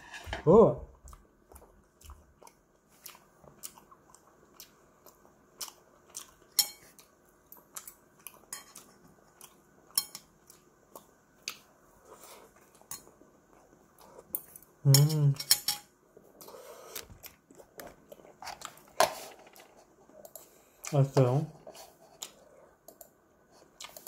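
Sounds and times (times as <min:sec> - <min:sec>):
soft chewing: 0:00.9 - 0:15.3, 0:16.1 - 0:24.0.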